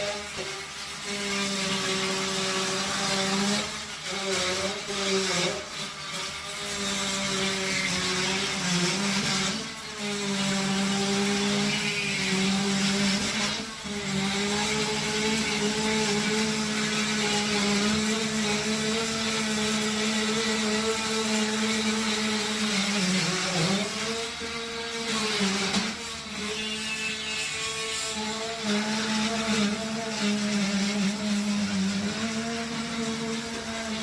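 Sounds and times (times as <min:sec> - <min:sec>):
power tool cutting into wall: 0:00.0 - 0:34.0.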